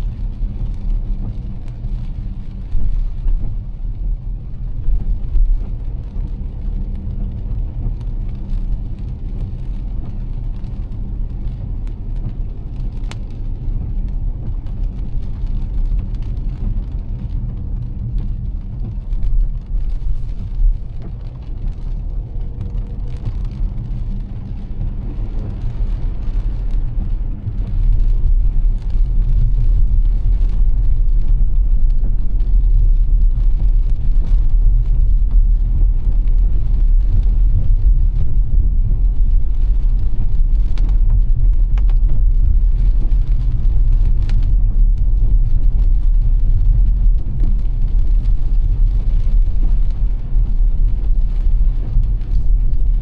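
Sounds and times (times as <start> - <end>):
car engine and tyres rumbling: 0.0 - 53.0
rain and spray hissing: 0.0 - 53.0.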